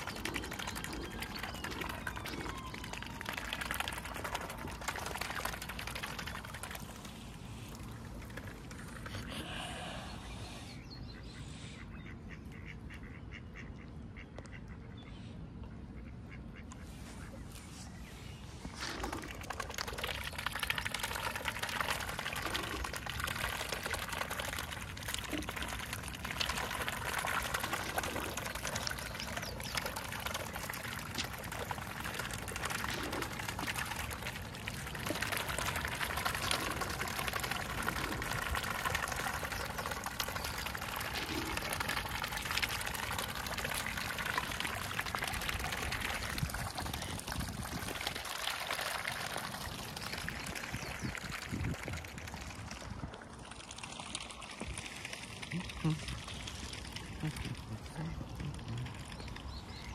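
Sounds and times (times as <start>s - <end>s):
water splashing and trickling: 0.0s - 11.2s, 16.7s - 59.9s.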